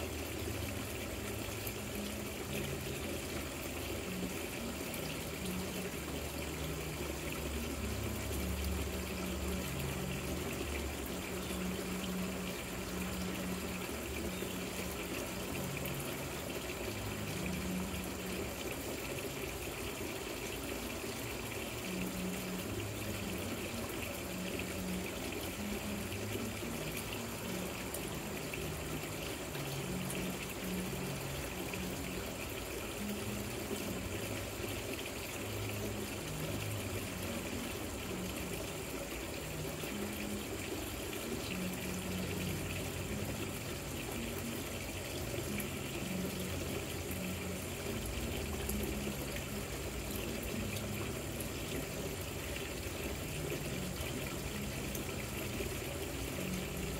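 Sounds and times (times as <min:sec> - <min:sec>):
fountain water trickling: 0:00.0 - 0:56.9.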